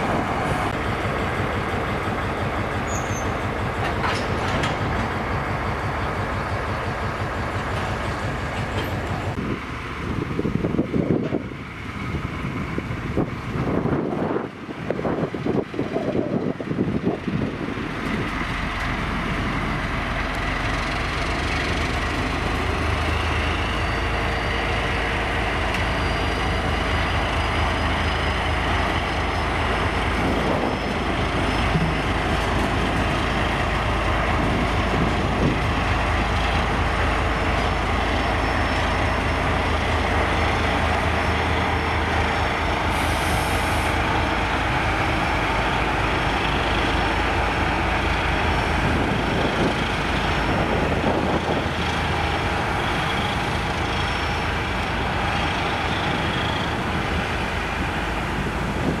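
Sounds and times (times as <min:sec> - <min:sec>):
diesel locomotive engine rumbling: 0:00.0 - 0:59.0.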